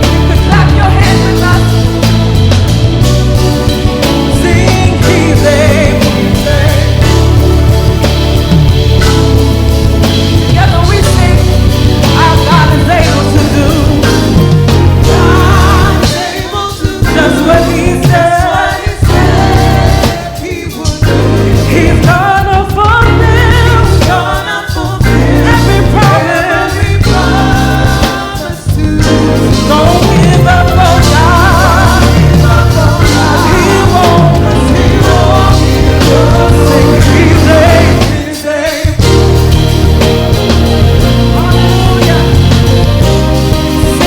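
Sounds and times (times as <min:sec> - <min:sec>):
gospel group singing with band: 0:00.0 - 0:44.0.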